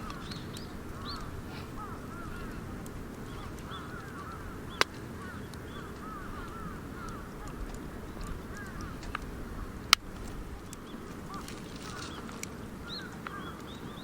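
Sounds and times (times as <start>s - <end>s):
birds calling: 0.0s - 14.0s
campfire crackling: 0.0s - 14.0s.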